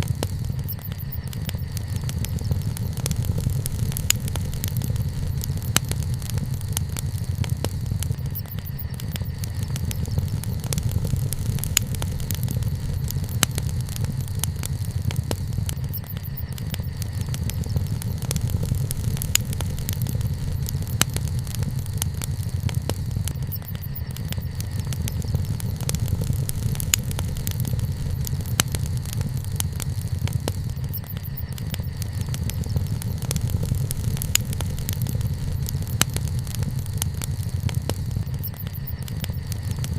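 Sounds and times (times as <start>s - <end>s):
bonfire crackles and pops: 0.0s - 39.9s
low rumble of fire: 0.0s - 39.9s.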